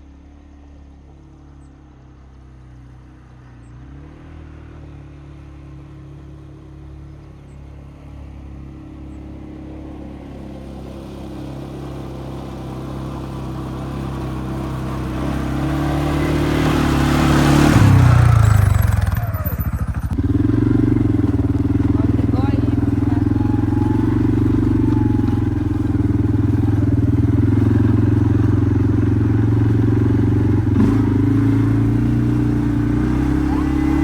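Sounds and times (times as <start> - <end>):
quad bike engine running: 0.0 - 34.0.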